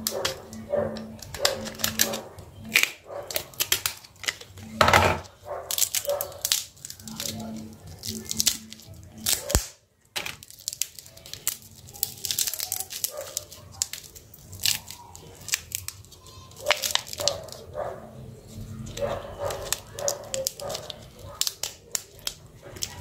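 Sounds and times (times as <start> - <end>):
plastic sheet crinkling: 0.0 - 23.0.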